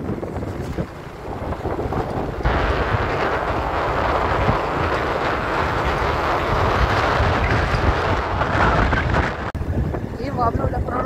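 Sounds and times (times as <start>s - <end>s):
loud rushing noise: 0.0s - 10.1s
low rumble: 0.0s - 11.0s.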